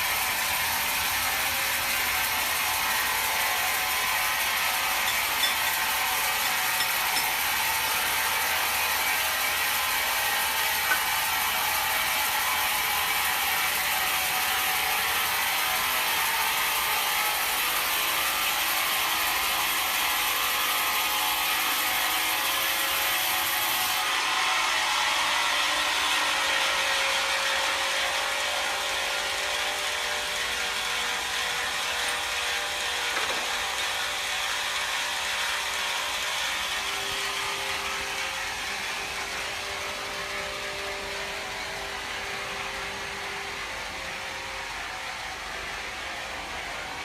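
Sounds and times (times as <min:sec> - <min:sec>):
wood-milling machinery running: 0:00.0 - 0:47.0.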